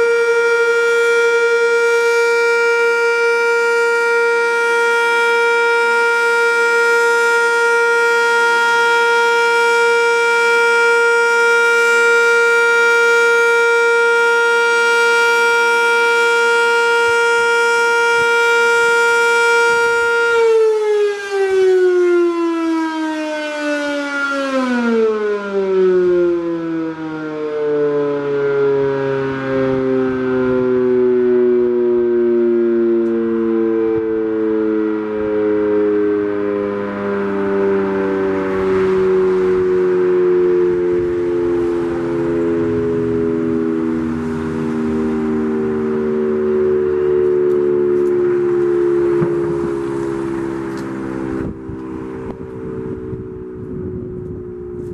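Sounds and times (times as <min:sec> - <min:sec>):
warning siren: 0:00.0 - 0:54.9.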